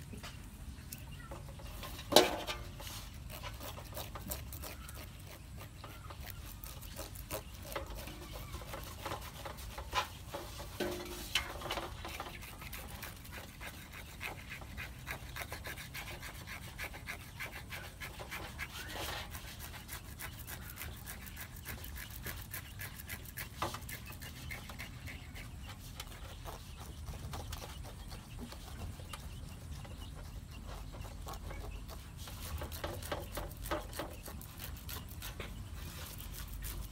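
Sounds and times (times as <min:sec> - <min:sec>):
knife scraping scales: 0:00.2 - 0:36.9.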